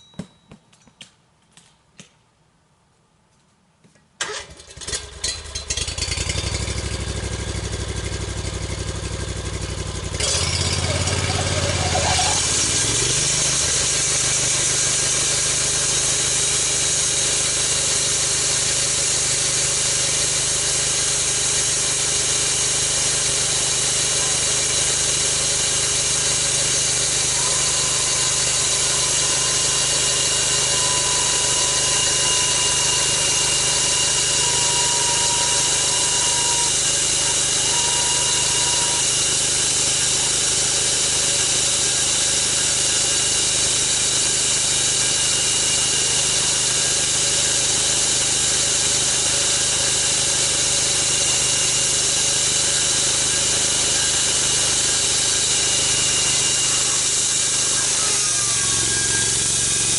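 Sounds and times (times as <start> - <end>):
engine-driven saw cutting log: 4.2 - 59.9.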